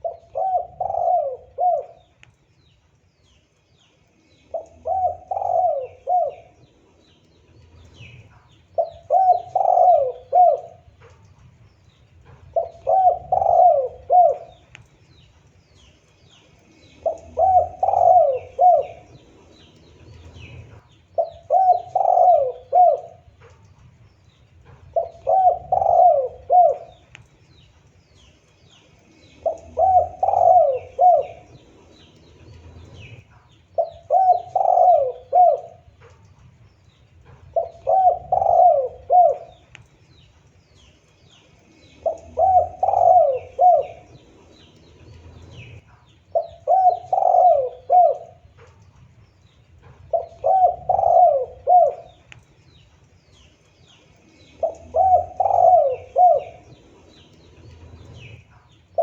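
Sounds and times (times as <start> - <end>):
dove cooing: 0.0 - 2.2, 4.5 - 6.9, 7.8 - 14.9, 16.6 - 28.3, 29.0 - 40.2, 41.6 - 48.9, 49.7 - 52.7, 53.3 - 59.0
small birds chirping: 0.0 - 59.0.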